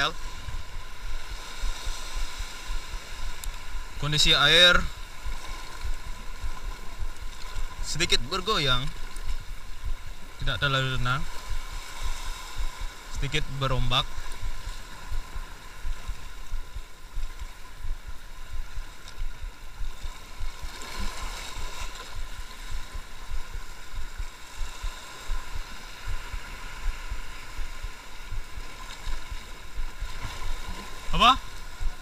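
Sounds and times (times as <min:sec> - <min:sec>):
wind buffeting microphone: 0:00.0 - 0:10.6, 0:11.2 - 0:32.0
sea washing against rocks: 0:00.0 - 0:32.0.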